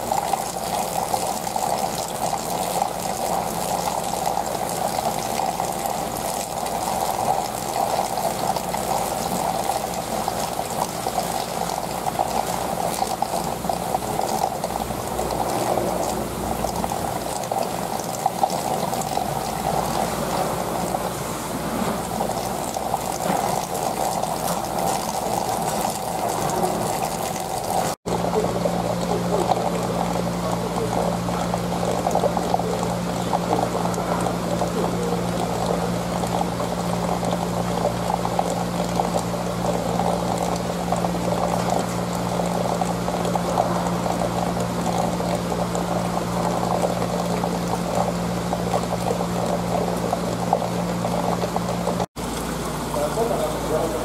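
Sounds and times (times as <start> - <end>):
water bubbling in aquarium: 0.0 - 54.0.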